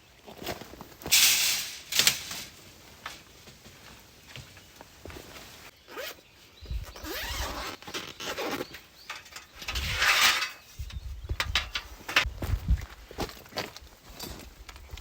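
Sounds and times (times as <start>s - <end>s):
rustling and handling noises: 0.2s - 15.0s.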